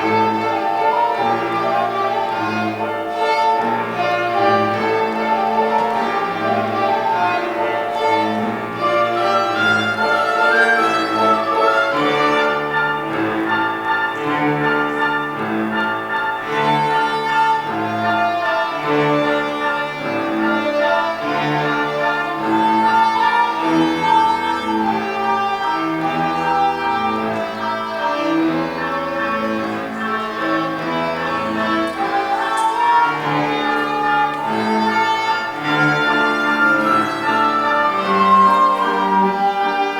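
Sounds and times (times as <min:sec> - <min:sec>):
violin: 0:00.0 - 0:39.9.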